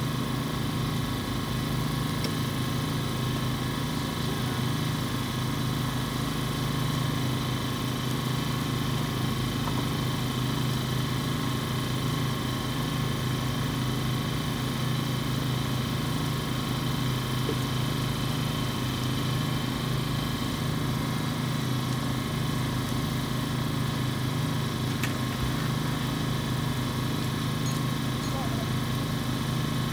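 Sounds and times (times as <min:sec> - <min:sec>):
engine running steadily: 0:00.0 - 0:29.9.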